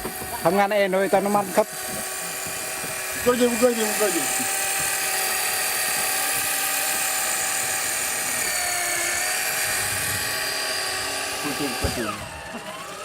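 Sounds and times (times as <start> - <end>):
motor high-pitched whine: 0.0 - 13.0.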